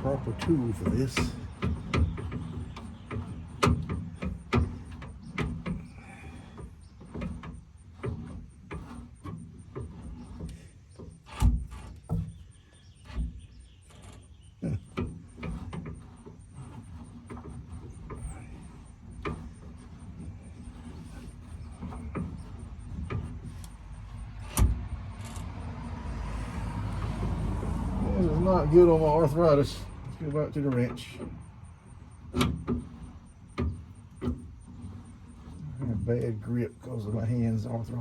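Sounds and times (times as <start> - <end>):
metal clanks: 0.0 - 25.6, 26.2 - 38.0
spare tire winch clicking: 0.0 - 36.4.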